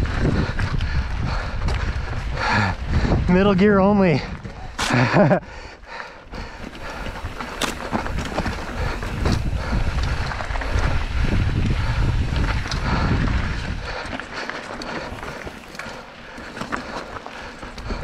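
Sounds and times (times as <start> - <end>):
bike tyre noise on dirt trail: 0.0 - 18.0
wind rumbling on microphone: 0.0 - 18.0.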